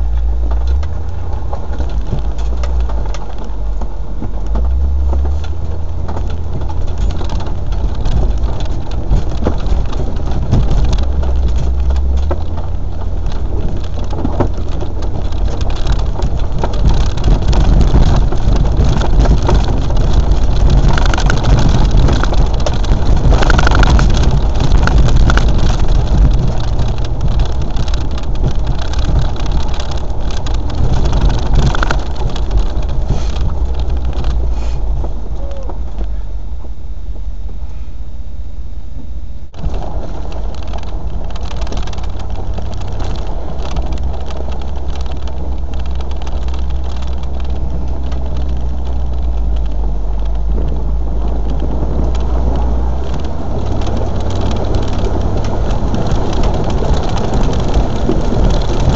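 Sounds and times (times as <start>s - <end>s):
knocks and rattles: 0.0s - 36.8s, 39.5s - 58.9s
off-road vehicle engine drone: 0.0s - 58.9s.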